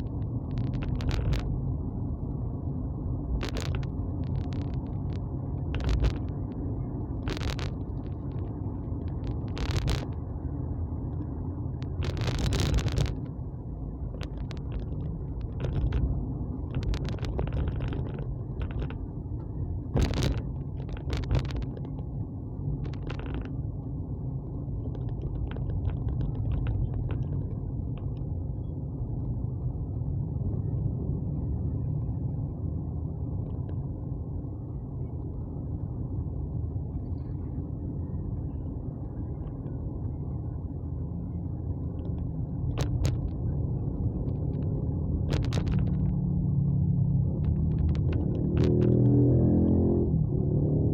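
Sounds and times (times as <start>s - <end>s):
vehicle rumble: 0.0s - 50.9s.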